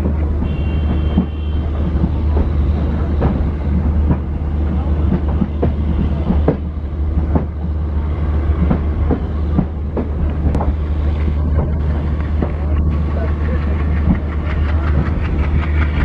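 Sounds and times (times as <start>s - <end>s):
train coach rumbling: 0.0s - 16.0s
wheels clicking over rail joints: 0.0s - 16.0s.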